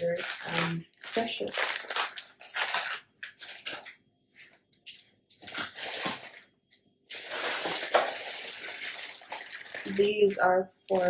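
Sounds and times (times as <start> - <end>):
plastic packets crinkling: 0.0 - 6.5, 7.1 - 11.0.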